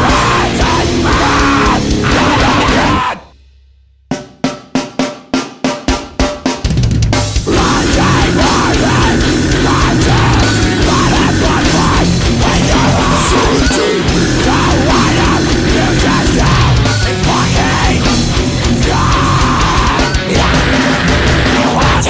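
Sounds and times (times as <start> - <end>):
heavy rock band playing: 0.0 - 3.3, 5.9 - 22.0.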